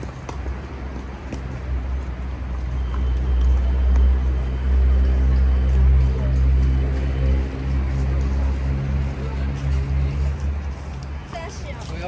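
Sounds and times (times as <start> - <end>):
engine running low hum: 0.0 - 11.3.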